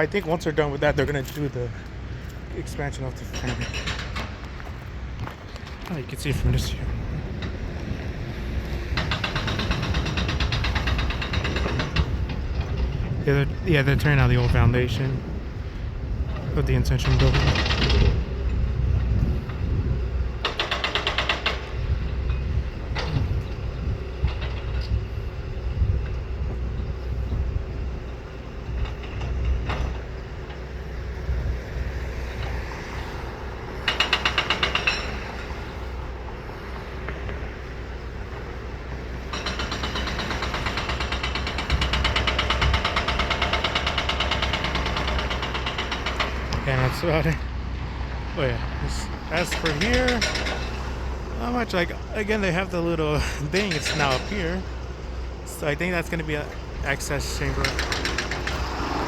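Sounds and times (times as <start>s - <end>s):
diesel engine rumble: 0.0s - 59.0s.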